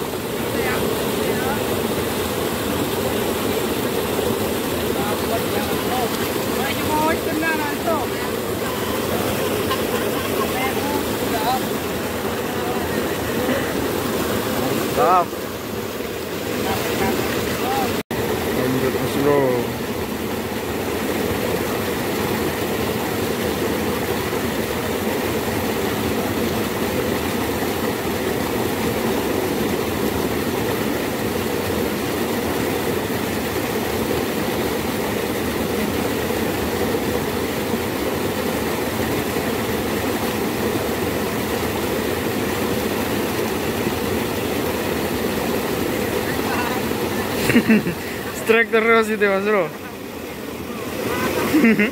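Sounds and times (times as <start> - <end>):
fast-flowing water rushing: 0.0 - 51.9.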